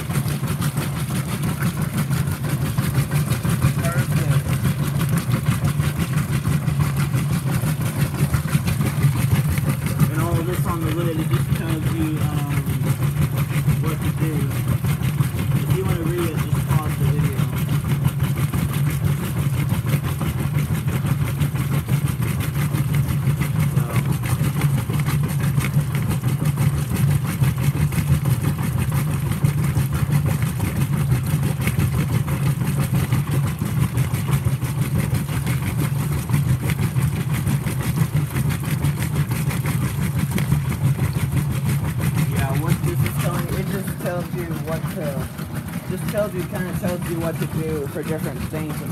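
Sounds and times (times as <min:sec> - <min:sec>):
washing machine running: 0:00.0 - 0:48.9.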